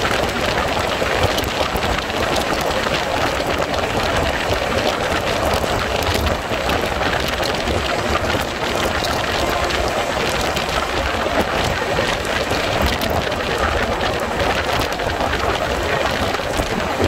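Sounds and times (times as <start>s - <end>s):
rain: 0.0s - 17.0s
train running on track: 0.0s - 17.0s.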